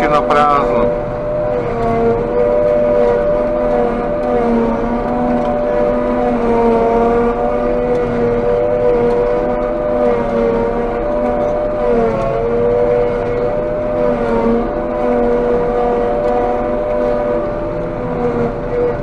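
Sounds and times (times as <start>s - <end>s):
harvester engine high whine: 0.0s - 19.0s.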